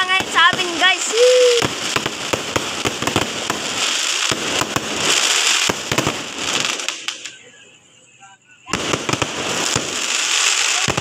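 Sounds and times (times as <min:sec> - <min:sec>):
crackle of burning sparks: 0:00.0 - 0:07.5, 0:08.6 - 0:11.0
fireworks bangs and pops: 0:00.0 - 0:07.5, 0:08.6 - 0:11.0.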